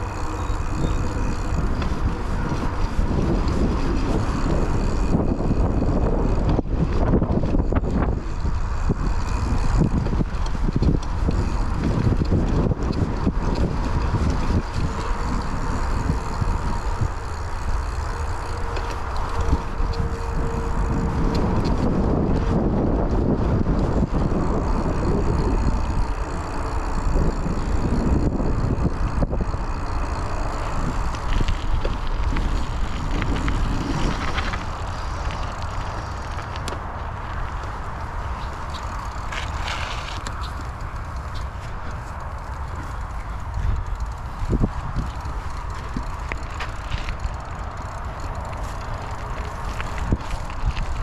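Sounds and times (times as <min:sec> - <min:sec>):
bike rattling and knocking: 0:00.0 - 0:51.0
bike tyre noise: 0:00.0 - 0:51.0
wind rumbling on microphone: 0:00.0 - 0:51.0.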